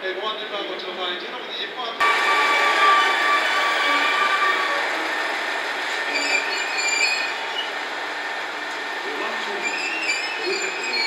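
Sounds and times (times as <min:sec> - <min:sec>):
train rumble and hiss: 0:02.0 - 0:11.0
train wheels and brakes squealing: 0:02.0 - 0:11.0.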